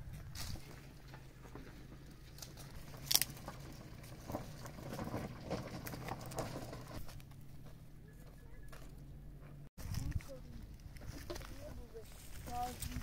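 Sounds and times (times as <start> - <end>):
brushwood crackling over stones: 0.1 - 9.0, 9.8 - 13.0.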